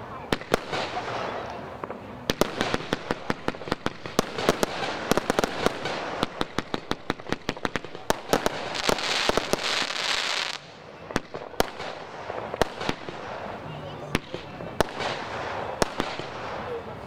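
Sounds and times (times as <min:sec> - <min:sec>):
loud firework hiss: 0:00.0 - 0:16.8
fireworks bangs: 0:00.0 - 0:17.0.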